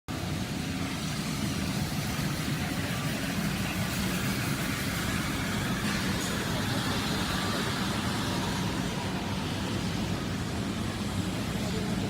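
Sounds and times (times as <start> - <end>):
floor scrubber running: 0.4 - 12.0.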